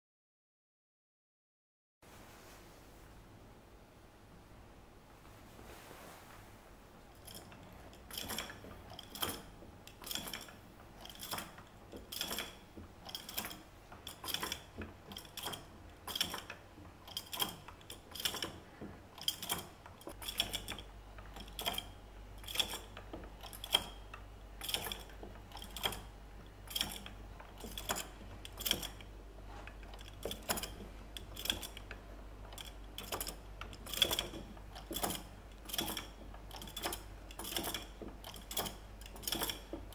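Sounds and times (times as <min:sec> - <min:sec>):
wooden mechanism clicking and knocking: 0:07.1 - 0:39.9.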